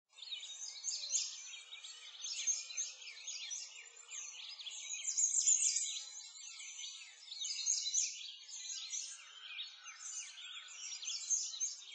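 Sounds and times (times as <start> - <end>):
songbirds chirping and trilling: 0.1 - 11.9.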